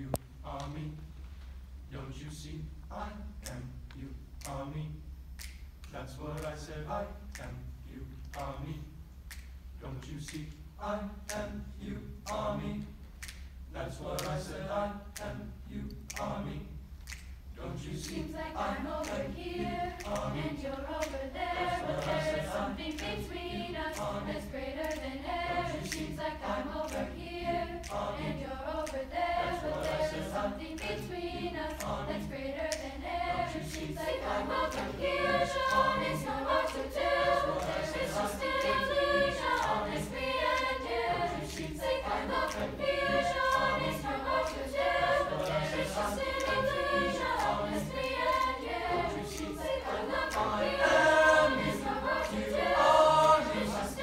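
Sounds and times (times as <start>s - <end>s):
choir singing: 6.0s - 8.9s, 9.9s - 13.0s, 13.7s - 16.8s, 17.5s - 54.0s.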